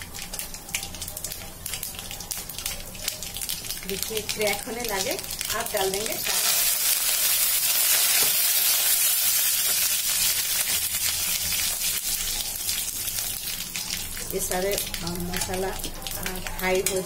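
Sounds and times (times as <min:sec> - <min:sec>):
crackling sizzle in hot oil: 0:00.0 - 0:17.0.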